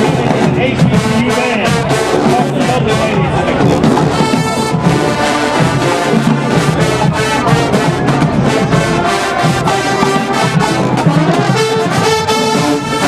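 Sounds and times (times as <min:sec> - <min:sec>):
drumline percussion: 0:00.0 - 0:13.0
trombones and trumpets playing: 0:00.0 - 0:13.0.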